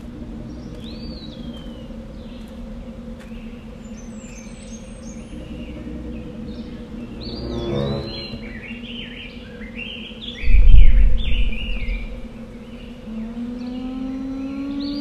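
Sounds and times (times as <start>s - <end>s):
low steady drone: 0.0s - 14.9s
birds chirping: 0.1s - 15.0s.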